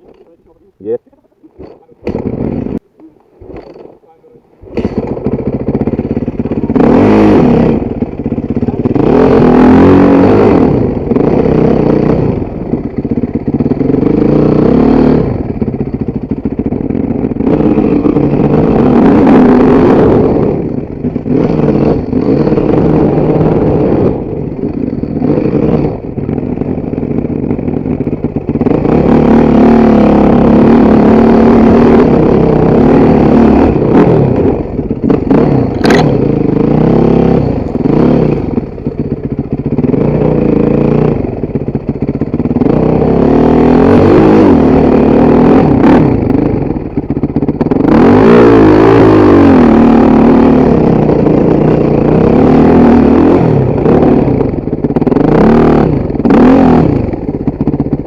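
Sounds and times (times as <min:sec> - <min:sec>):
motorcycle engine revving: 0:01.4 - 0:58.0.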